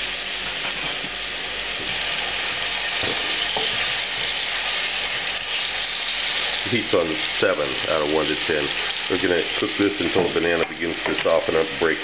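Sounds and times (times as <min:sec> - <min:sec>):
banana slices sizzling in hot oil: 0:00.0 - 0:12.0.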